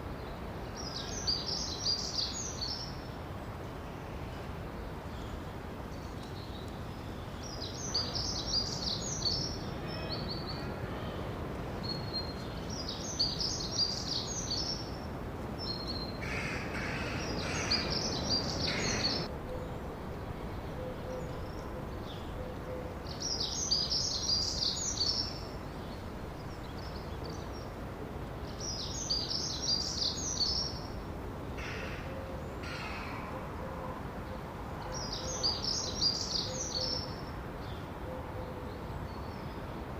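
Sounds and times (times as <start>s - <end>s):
background hiss: 0.0s - 39.9s
songbird singing: 0.0s - 39.9s.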